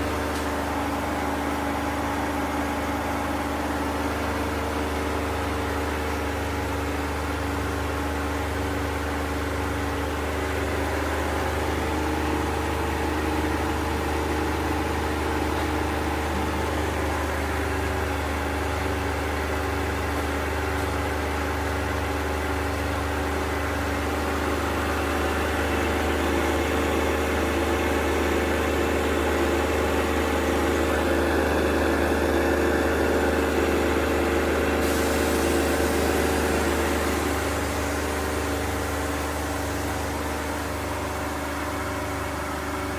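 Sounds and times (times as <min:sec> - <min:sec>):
washing machine spinning: 0:00.0 - 0:42.9.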